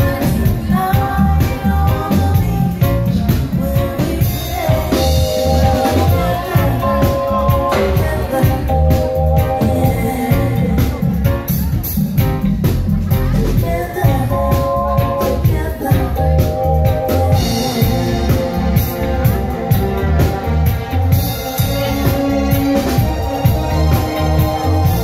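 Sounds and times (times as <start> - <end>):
live reggae band playing: 0.0 - 25.0.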